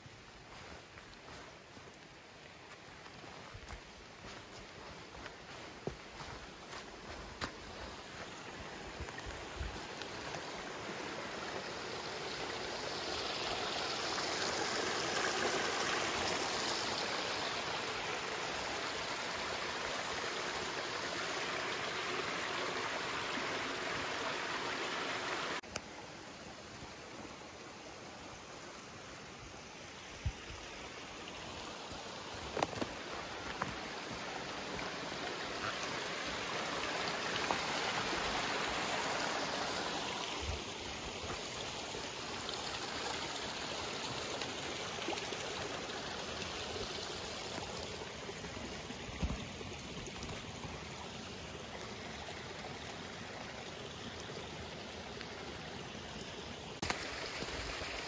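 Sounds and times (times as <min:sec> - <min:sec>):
brook water rushing: 0:00.0 - 0:58.0.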